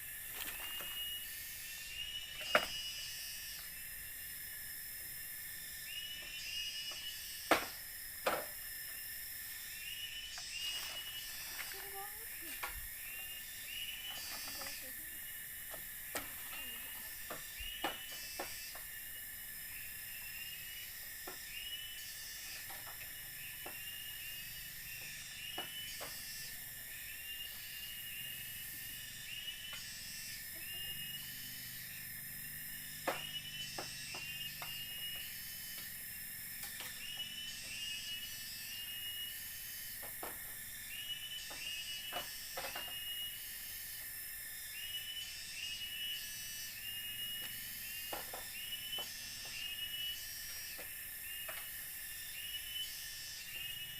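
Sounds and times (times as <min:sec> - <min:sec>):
high hiss: 0:00.0 - 0:53.9
high insect drone: 0:00.0 - 0:53.9.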